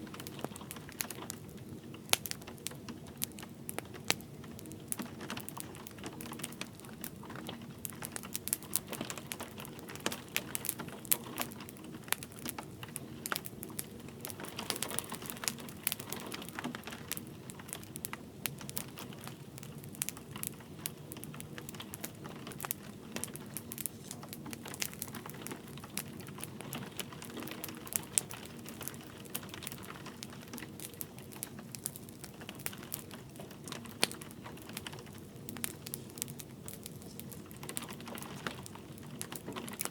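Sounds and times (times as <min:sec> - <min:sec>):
light rain hiss: 0:00.0 - 0:39.9
wood fire crackling and popping: 0:00.0 - 0:39.9.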